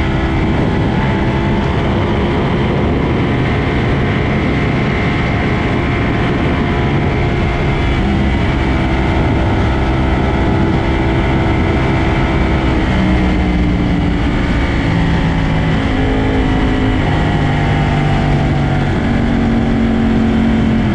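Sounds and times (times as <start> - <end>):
motorcycle engines racing: 0.0 - 20.9
steady rush of noise: 0.0 - 20.9.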